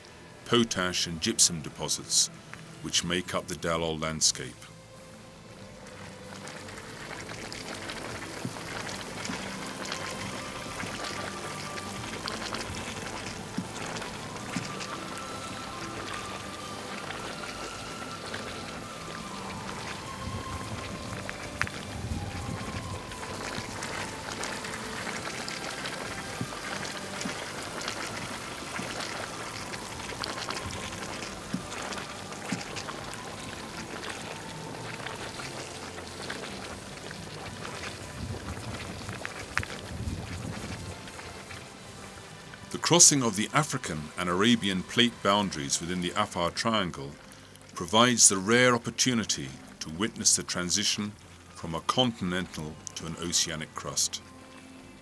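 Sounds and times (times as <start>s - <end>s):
hot spring bubbling and fizzing: 0.0s - 55.0s.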